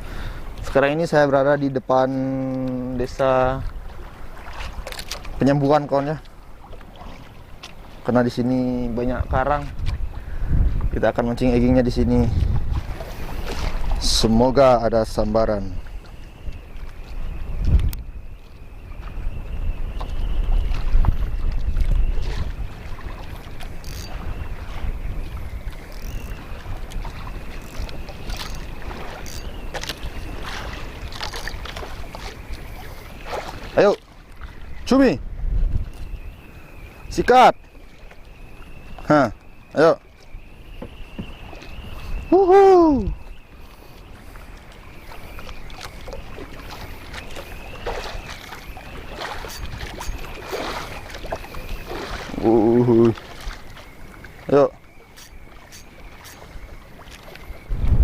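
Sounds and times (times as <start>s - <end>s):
water slapping against boat hull: 0.0s - 34.9s, 37.0s - 58.0s
wind buffeting microphone: 0.0s - 37.4s, 40.3s - 58.0s.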